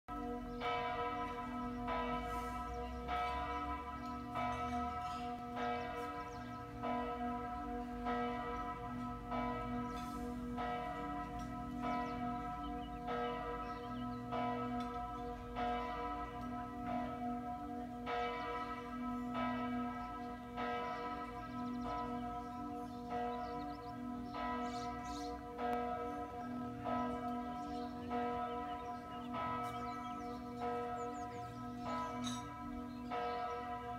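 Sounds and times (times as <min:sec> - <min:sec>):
church bells pealing: 0:00.1 - 0:33.9.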